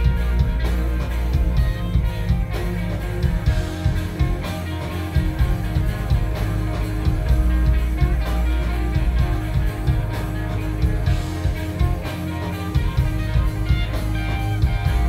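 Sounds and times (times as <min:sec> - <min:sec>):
drum hits: 0:00.0 - 0:15.0
live rock band playing: 0:00.0 - 0:15.0.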